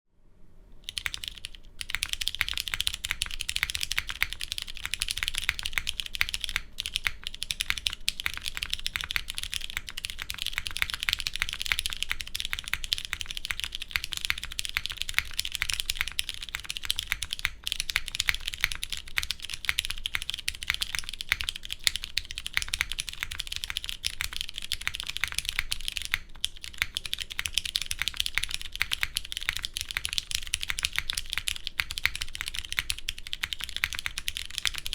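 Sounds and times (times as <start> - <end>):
mechanical keyboard typing: 0.8 - 34.9.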